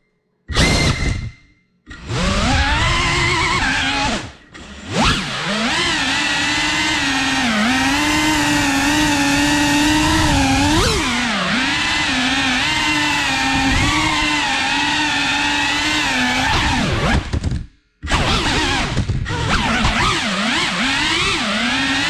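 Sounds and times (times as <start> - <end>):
drone motors and propellers whining: 0.5 - 22.0.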